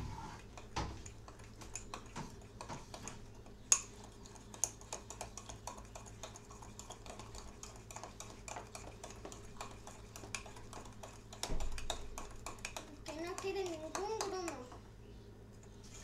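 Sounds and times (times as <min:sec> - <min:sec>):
spoon stirring batter: 0:00.2 - 0:16.0.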